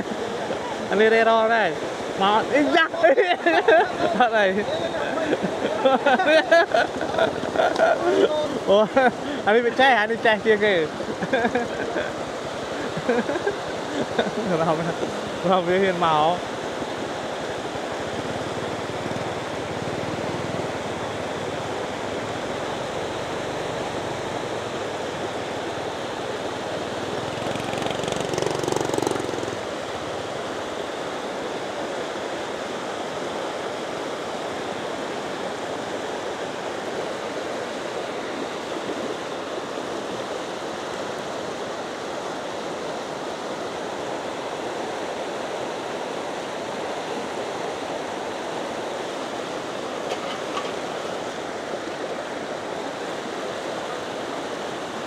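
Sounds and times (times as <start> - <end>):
floodwater rushing: 0.0 - 55.0.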